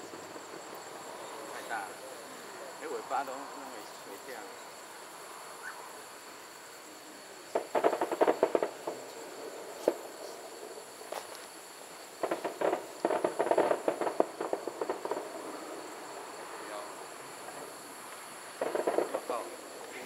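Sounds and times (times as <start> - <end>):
distant fireworks crackling: 0.0 - 20.0.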